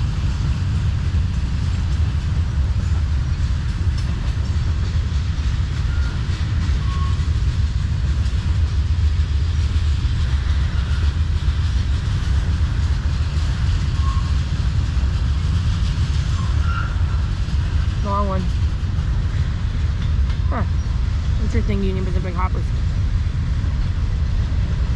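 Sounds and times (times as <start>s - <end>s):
freight train rumbling past: 0.0s - 24.9s.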